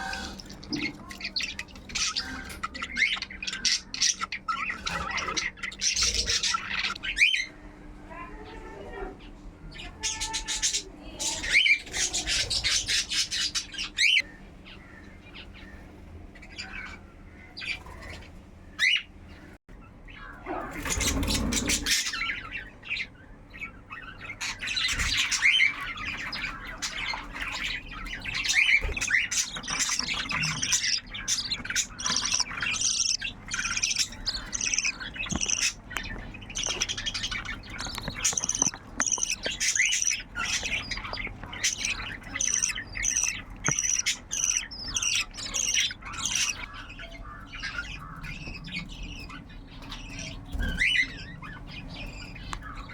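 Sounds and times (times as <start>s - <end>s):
birds chirping and squawking: 0.0s - 52.9s.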